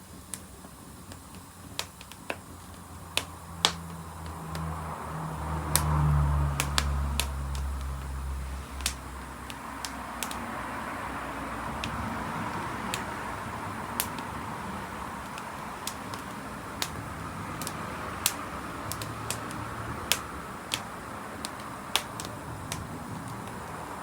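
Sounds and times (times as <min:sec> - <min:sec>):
fire crackling pops: 0:00.0 - 0:24.0
wood fire hissing: 0:00.0 - 0:24.0.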